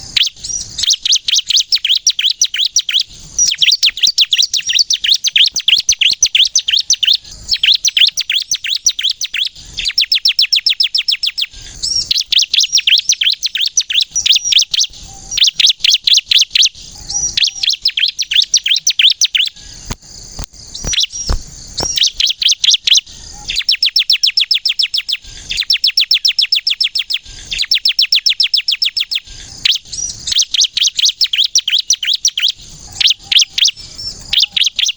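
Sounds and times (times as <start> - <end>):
bird singing rapid high notes: 0.0 - 19.9, 20.7 - 34.9.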